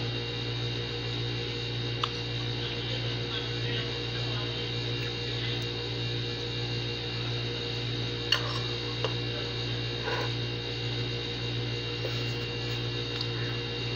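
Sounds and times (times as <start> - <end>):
steady electrical hum: 0.0 - 13.9.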